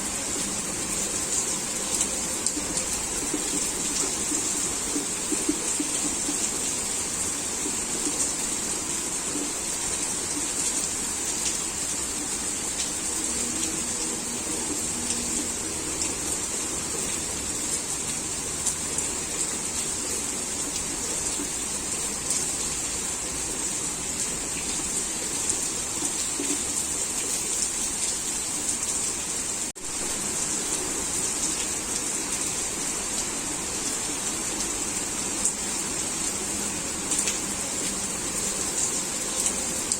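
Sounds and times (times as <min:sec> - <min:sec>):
heavy rain falling: 0:00.0 - 0:39.9
raindrops tapping on surfaces: 0:00.1 - 0:39.9.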